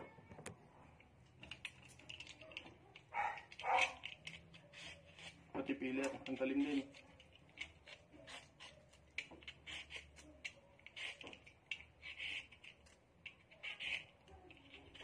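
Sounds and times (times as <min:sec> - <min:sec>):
vegetable peeler scraping skin: 0:01.5 - 0:15.0.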